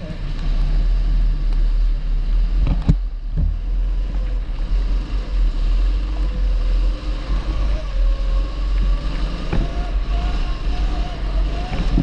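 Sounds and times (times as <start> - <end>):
kart engine running: 0.0 - 12.0.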